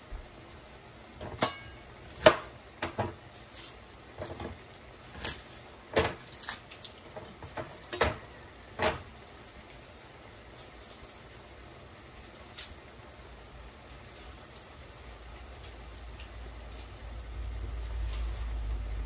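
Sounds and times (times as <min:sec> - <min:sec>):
sauce bubbling in a pan: 0:00.0 - 0:19.0.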